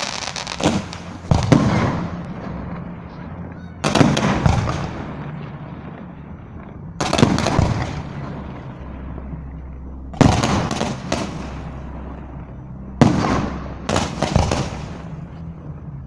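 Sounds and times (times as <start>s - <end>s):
fireworks bangs: 0.0s - 15.5s.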